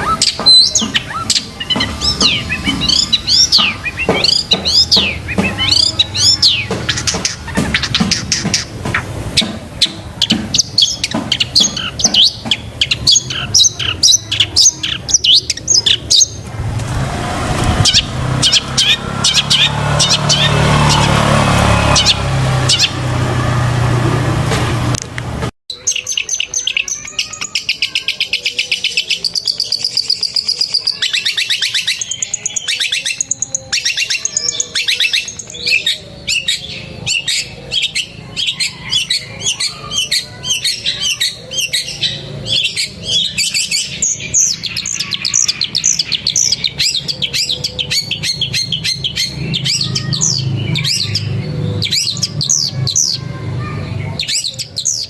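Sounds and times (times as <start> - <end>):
bird singing rapid trills: 0.0 - 16.5, 17.7 - 23.2, 25.7 - 55.0
broad noise: 0.0 - 55.0.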